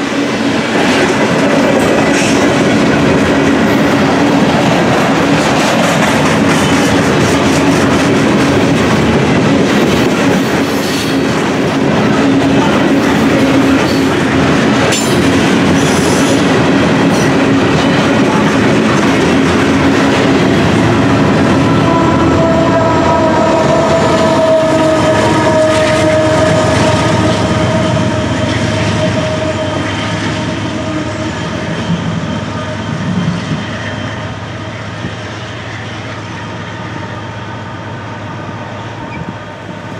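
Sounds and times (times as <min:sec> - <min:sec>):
freight train wheels rumbling: 0:00.0 - 0:39.9
locomotive whine: 0:00.0 - 0:39.9.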